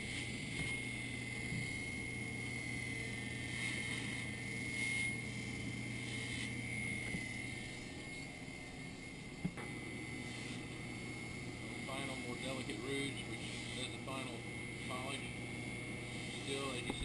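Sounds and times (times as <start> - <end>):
polishing motor hum and whine: 0.0 - 17.0.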